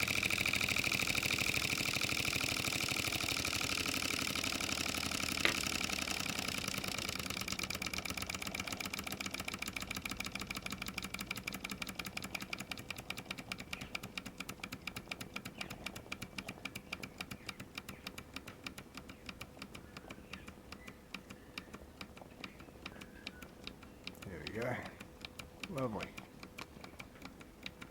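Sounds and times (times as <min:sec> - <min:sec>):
miniature steam engine puffing: 0:00.0 - 0:27.9
sharp click: 0:05.1 - 0:27.9.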